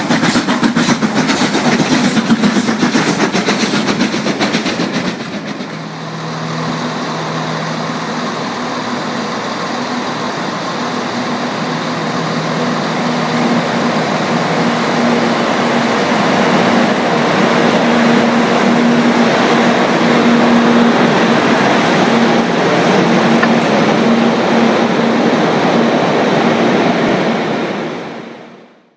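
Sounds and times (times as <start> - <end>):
diesel locomotive engine: 0.0 - 28.9.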